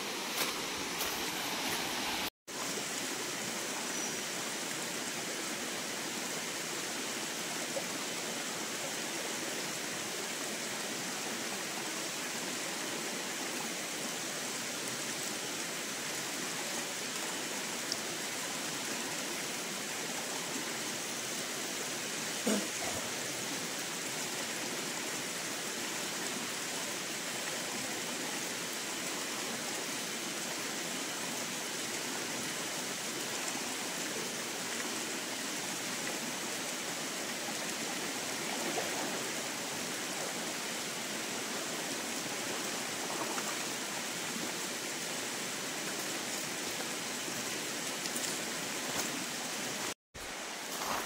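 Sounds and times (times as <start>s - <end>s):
stream flowing: 0.0s - 51.0s.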